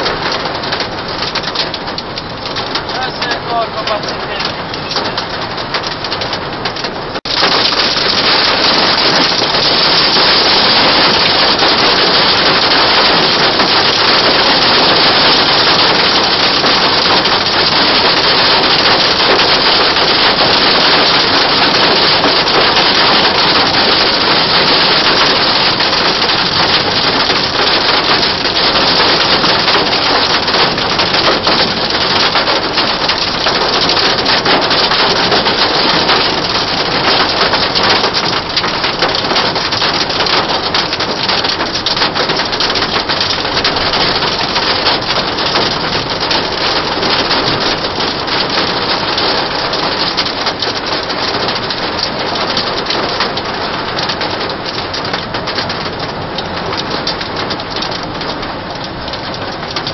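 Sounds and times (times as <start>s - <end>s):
rain and hail on car roof: 0.0s - 59.9s.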